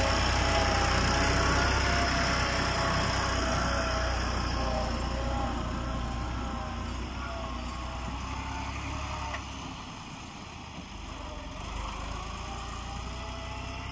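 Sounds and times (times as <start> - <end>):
tractor diesel engine under load: 0.0 - 13.9.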